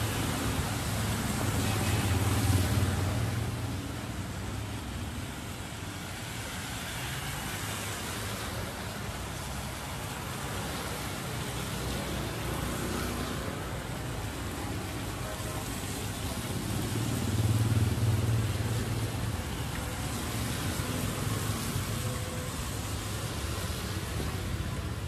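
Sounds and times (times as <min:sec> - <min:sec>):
tyres hissing on wet road: 0:00.0 - 0:25.0
vehicles passing: 0:00.0 - 0:25.0.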